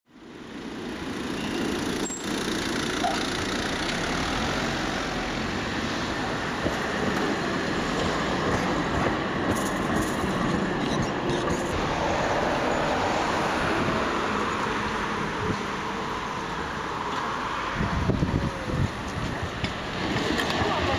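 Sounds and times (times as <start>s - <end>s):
tram wheels rumbling on rails: 0.2s - 20.9s.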